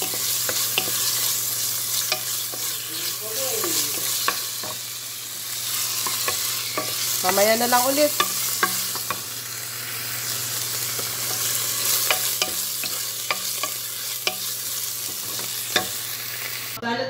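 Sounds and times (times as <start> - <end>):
chicken sizzling in a hot pan: 0.0 - 16.8.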